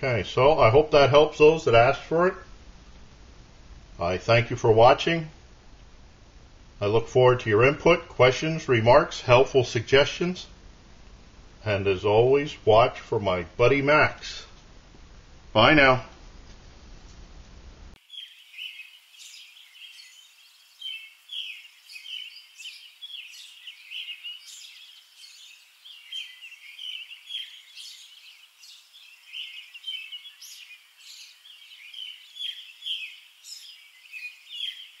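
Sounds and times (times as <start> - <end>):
songbirds chirping: 0.0 - 16.1, 17.9 - 35.0.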